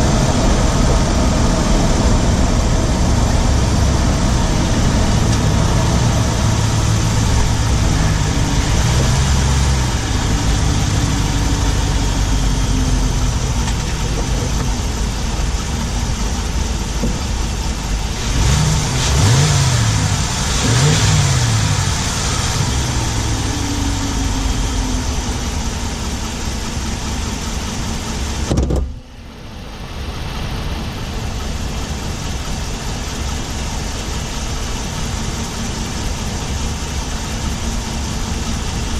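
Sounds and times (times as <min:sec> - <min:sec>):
engine ticking: 0:00.0 - 0:29.1, 0:30.1 - 0:38.9
truck engine running: 0:00.0 - 0:38.9.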